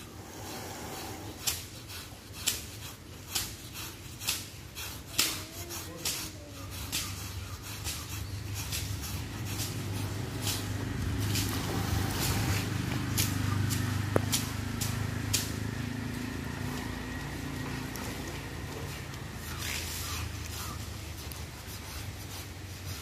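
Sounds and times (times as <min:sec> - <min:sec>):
scrubbing on wet hide: 0:00.2 - 0:23.0.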